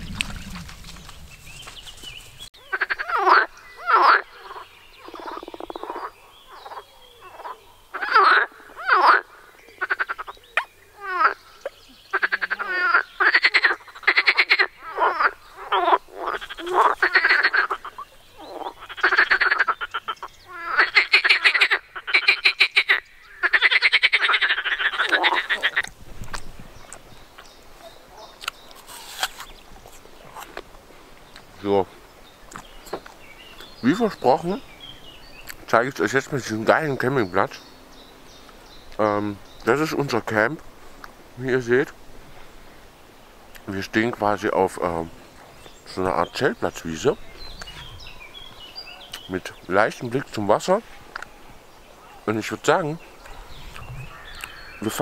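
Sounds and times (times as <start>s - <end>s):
frogs croaking: 0.0s - 26.0s, 26.8s - 55.0s.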